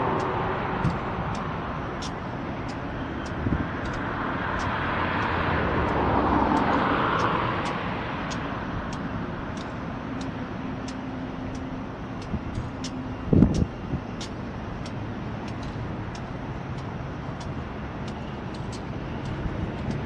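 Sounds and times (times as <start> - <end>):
road vehicle passing: 0.0 - 20.0
traffic rumble: 0.0 - 20.0
faint high ticks: 0.1 - 20.0.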